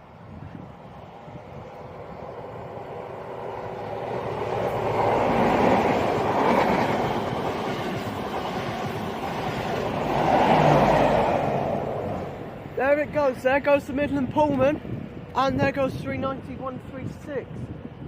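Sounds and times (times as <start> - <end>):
trains passing at speed: 0.0 - 18.0.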